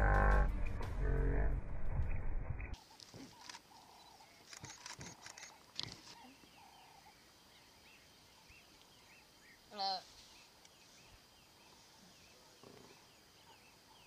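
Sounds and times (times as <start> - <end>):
faint bird chirps: 2.1 - 14.0.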